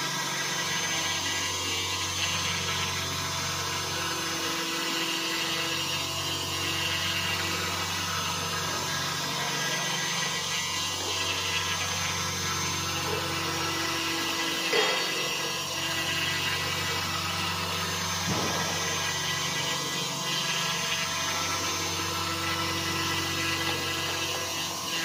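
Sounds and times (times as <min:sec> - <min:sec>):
cnc router hum with high whine: 0:00.0 - 0:25.0.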